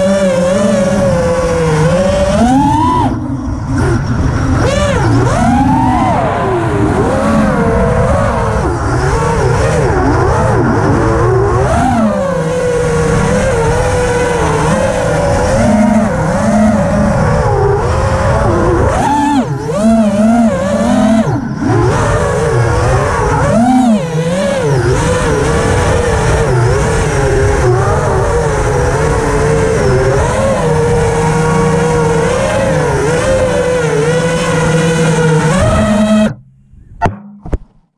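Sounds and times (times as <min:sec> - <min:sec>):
quadcopter motors whining: 0:00.0 - 0:36.4.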